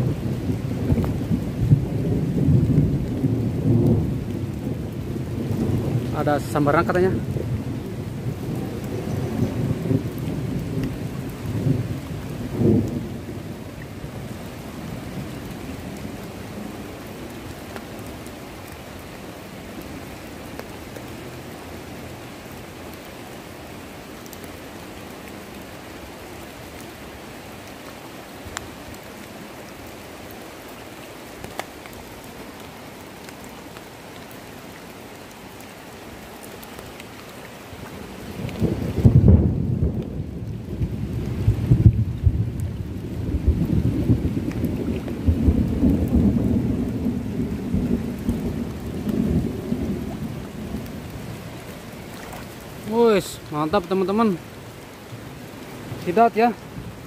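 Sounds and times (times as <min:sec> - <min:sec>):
rain falling on water and grass: 0:00.0 - 0:57.0.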